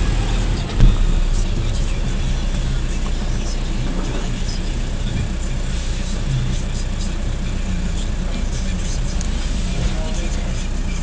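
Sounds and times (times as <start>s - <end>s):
garbage truck engine idling: 0.0s - 11.0s.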